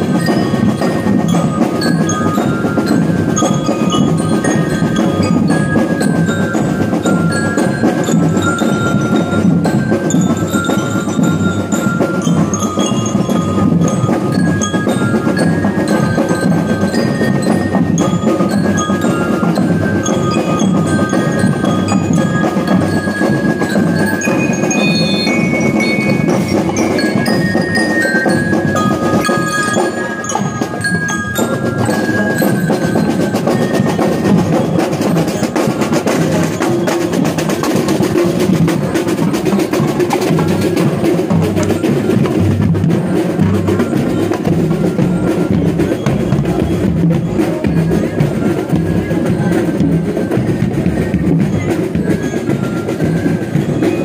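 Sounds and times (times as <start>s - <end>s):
bell lyres playing melody: 0.0s - 54.0s
marching drums: 0.0s - 54.0s.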